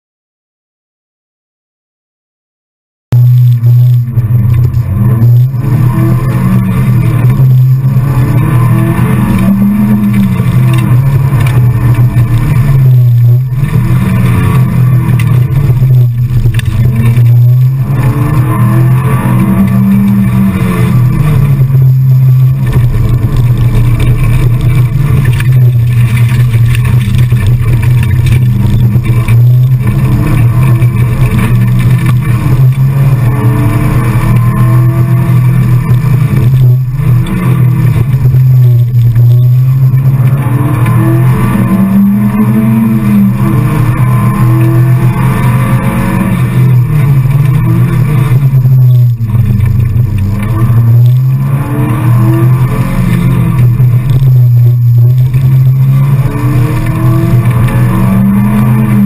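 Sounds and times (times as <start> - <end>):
rally car engine revving: 3.1 - 59.0.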